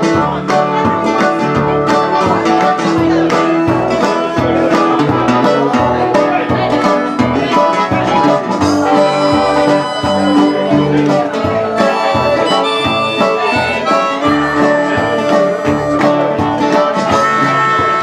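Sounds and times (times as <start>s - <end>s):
strummed guitar: 0.0s - 18.0s
walking bass line: 0.0s - 18.0s
harmonica melody: 0.5s - 18.0s.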